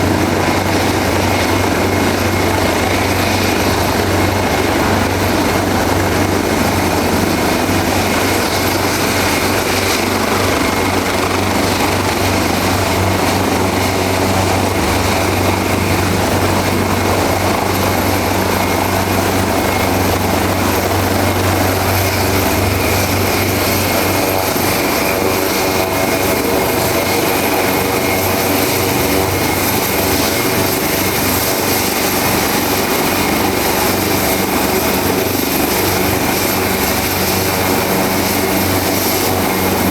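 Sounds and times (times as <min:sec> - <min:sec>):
helicopter rotor beat: 0:00.0 - 0:39.9
high turbine whine: 0:00.0 - 0:39.9.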